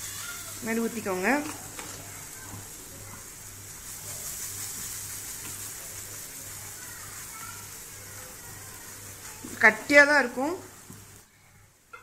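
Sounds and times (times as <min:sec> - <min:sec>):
batter sizzling on hot griddle: 0:00.0 - 0:12.0.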